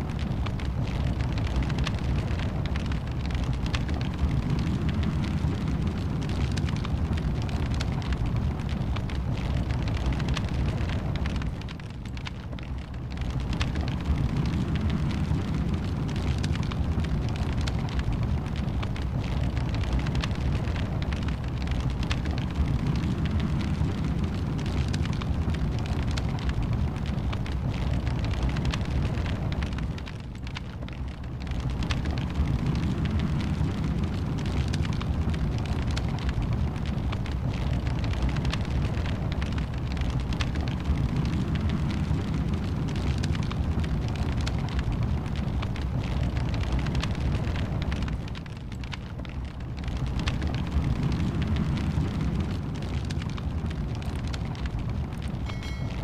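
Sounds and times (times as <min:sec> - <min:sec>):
fire roaring low: 0:00.0 - 0:56.0
wood fire crackling and popping: 0:00.0 - 0:56.0.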